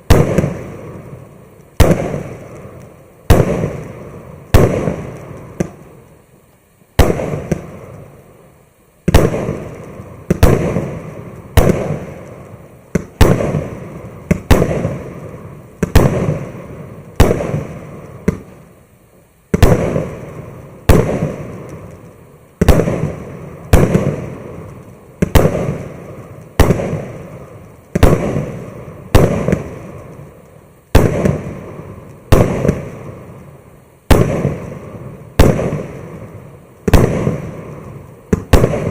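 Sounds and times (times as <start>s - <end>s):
fireworks bangs: 0.0s - 6.2s, 6.9s - 18.8s, 19.5s - 38.9s.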